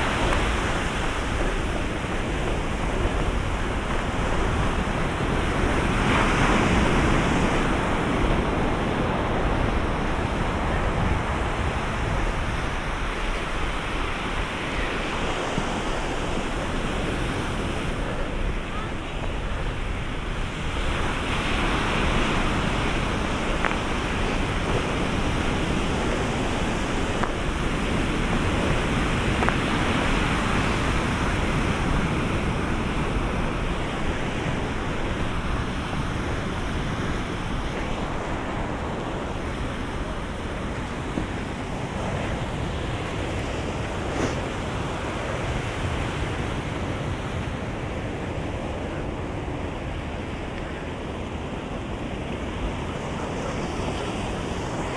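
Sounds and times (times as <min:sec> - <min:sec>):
ocean surf breaking on shore: 0:00.0 - 0:54.9
wind buffeting microphone: 0:00.0 - 0:54.9.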